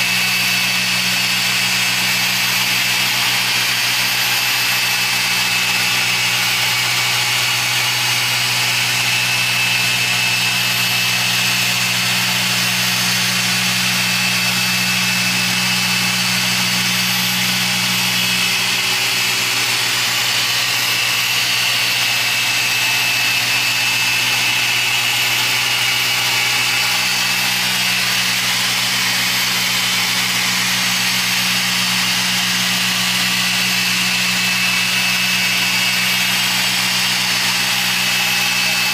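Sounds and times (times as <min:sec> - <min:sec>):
machine polisher drone and whine: 0:00.0 - 0:38.9.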